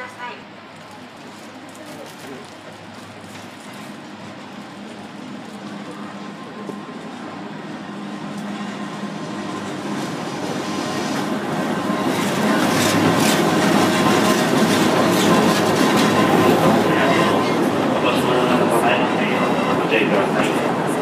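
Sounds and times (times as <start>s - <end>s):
locomotive hum: 0.0s - 21.0s.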